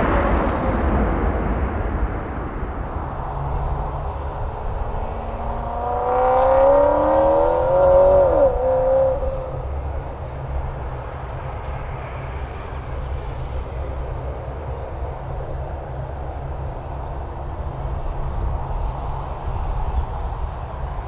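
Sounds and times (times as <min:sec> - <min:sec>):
jet airliner passing: 0:00.0 - 0:21.0.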